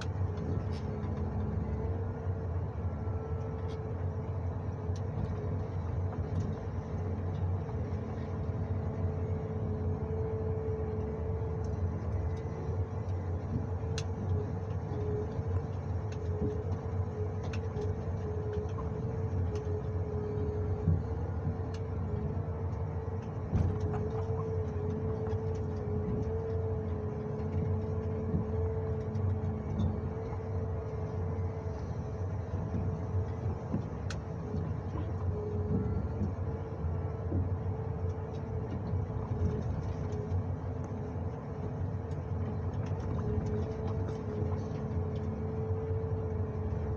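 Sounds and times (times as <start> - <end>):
engine rumble with whine: 0.0 - 46.9.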